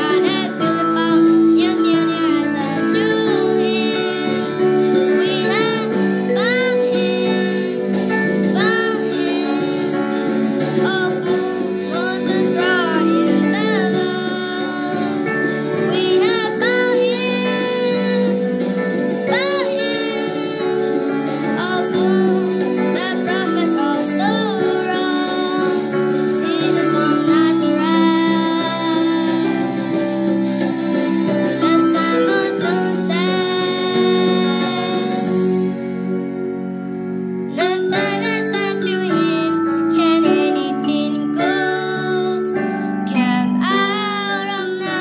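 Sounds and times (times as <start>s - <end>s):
girl singing: 0.0s - 30.2s, 31.2s - 35.8s, 37.5s - 45.0s
sustained instrumental chords: 0.0s - 40.6s.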